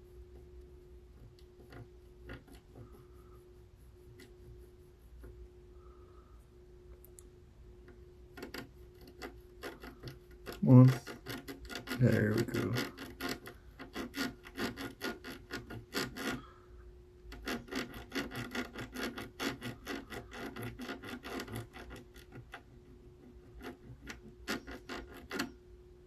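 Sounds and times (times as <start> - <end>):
scrubbing on circuit board: 0.0 - 5.6, 7.9 - 16.5, 17.2 - 25.6
faint steady hum: 0.0 - 26.0.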